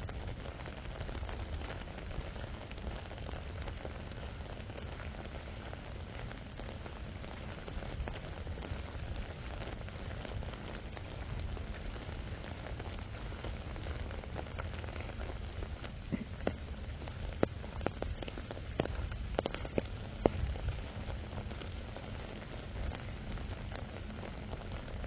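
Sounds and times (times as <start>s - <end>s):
raindrops tapping on umbrella: 0.0s - 25.0s
steady rainfall: 0.0s - 25.0s.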